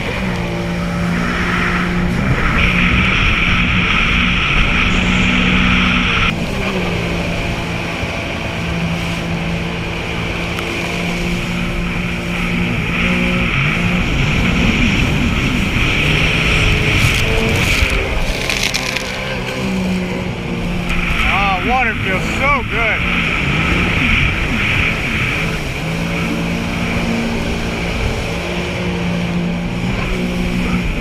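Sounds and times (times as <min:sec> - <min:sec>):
jet ski engine running: 0:00.0 - 0:31.0.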